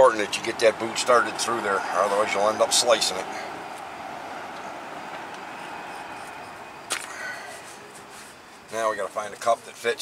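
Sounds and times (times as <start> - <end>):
distant traffic hum: 0.0 - 10.0.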